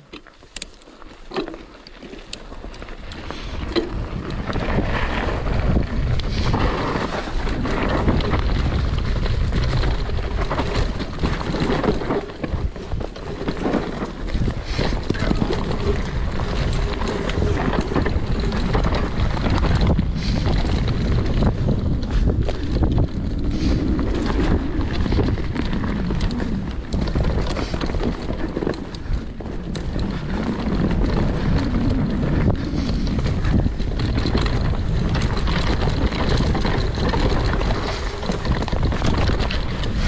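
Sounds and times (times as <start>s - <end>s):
bike knocking and rattling: 0.0s - 40.0s
wind rushing on microphone: 3.1s - 40.0s.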